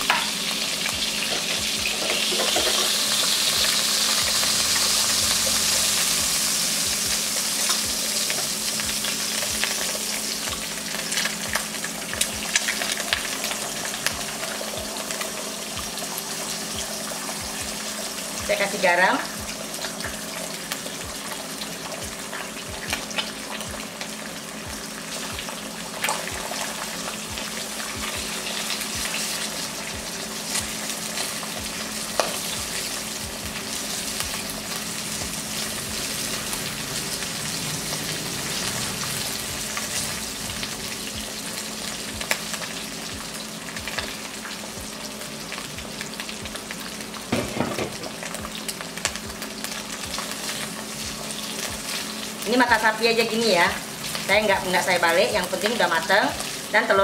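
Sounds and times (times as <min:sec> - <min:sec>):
eggs sizzling in a pan: 0:00.0 - 0:57.0.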